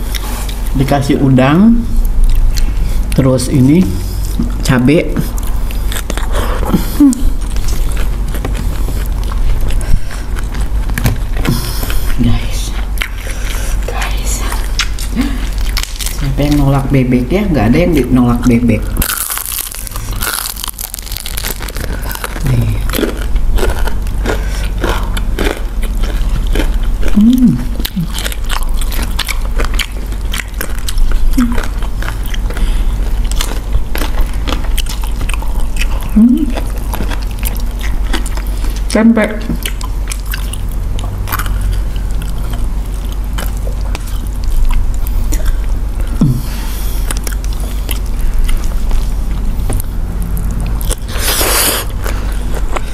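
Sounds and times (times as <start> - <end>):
chewing crunchy food: 0.0 - 52.9
steady low hum: 0.0 - 52.9.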